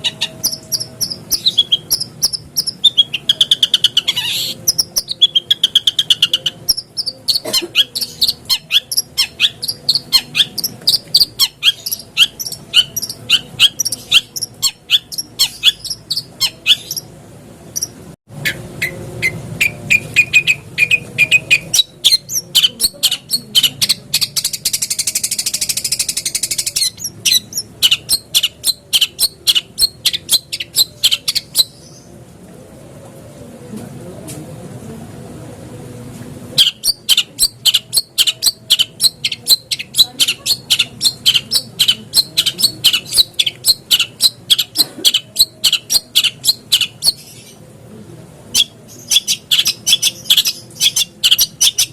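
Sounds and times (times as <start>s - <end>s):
bird chattering song: 0.0s - 17.1s, 17.7s - 32.1s, 36.6s - 47.6s, 48.5s - 51.9s.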